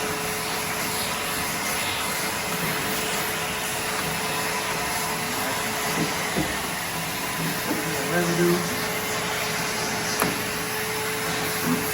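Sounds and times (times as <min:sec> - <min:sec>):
vacuum cleaner whining: 0:00.0 - 0:11.9.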